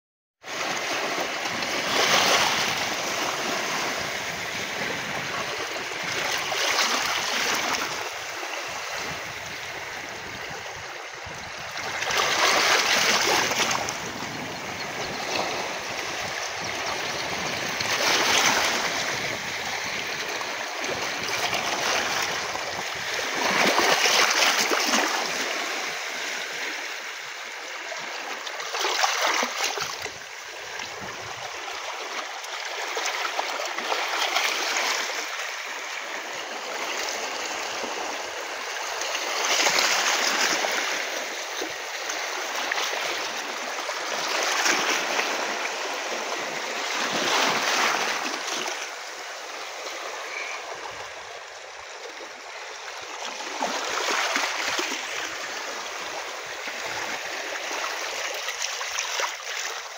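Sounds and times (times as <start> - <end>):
sea waves splashing over rocks: 0.5 - 59.9.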